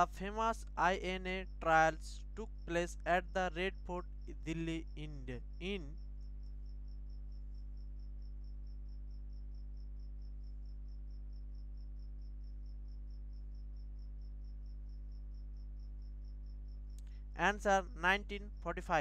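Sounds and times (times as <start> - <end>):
constant low hum: 0.0 - 19.0
insect chirping in short pulses: 1.0 - 17.3.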